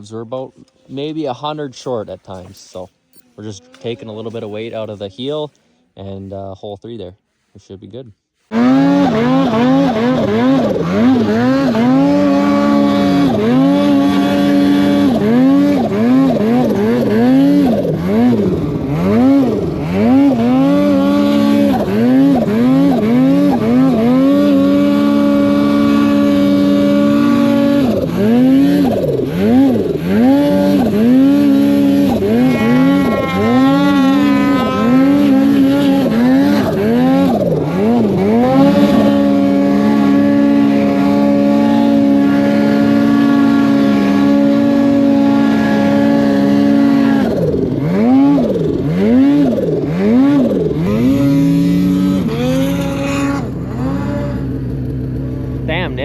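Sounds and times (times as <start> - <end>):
snowmobile engine revving: 0.0 - 7.8, 8.4 - 56.0.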